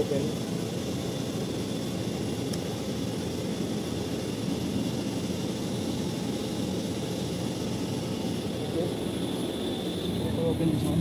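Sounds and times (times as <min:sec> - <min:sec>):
air-conditioning units droning: 0:00.0 - 0:11.0.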